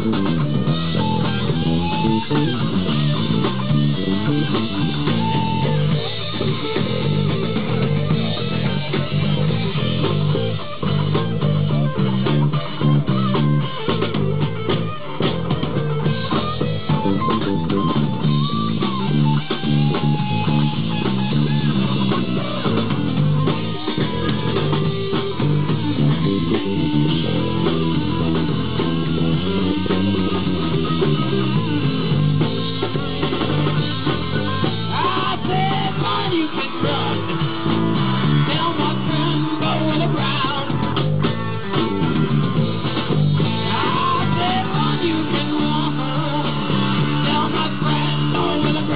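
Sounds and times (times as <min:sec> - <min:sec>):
bent electric guitar notes: 0:00.0 - 0:48.9
drum kit: 0:00.0 - 0:48.9
electric bass notes: 0:00.0 - 0:48.9.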